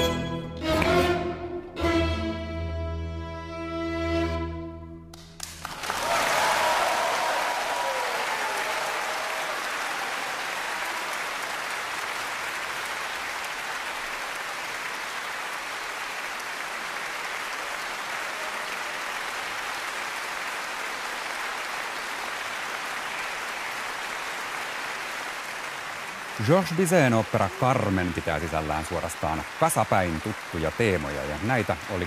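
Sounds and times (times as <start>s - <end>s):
audience applauding: 5.1s - 32.0s.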